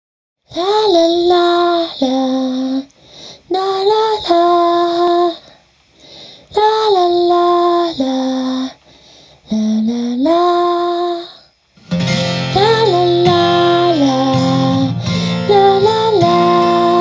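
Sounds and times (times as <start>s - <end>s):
woman singing unaccompanied: 0.5s - 5.6s, 6.4s - 8.8s, 9.4s - 11.5s, 12.5s - 17.0s.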